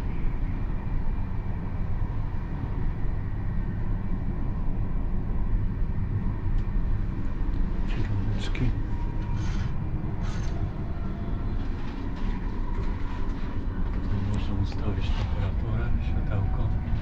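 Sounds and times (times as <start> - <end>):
faint steady whine: 0.0 - 17.0
train carriage low rumble: 0.0 - 17.0.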